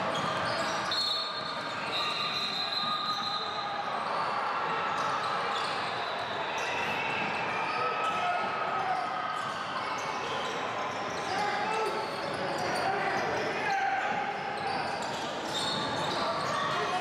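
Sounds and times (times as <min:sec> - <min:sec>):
players and spectators talking: 0:00.0 - 0:17.0.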